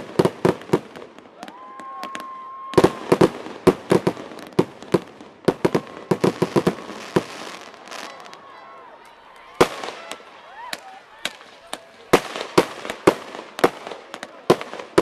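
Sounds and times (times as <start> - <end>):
fireworks whistling: 0.0 - 8.4, 9.6 - 15.0
fireworks bangs and cracks: 0.0 - 8.6, 9.4 - 15.0.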